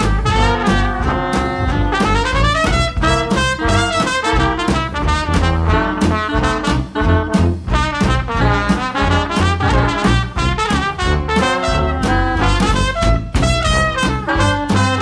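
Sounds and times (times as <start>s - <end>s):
swing jazz music with brass: 0.0s - 15.0s.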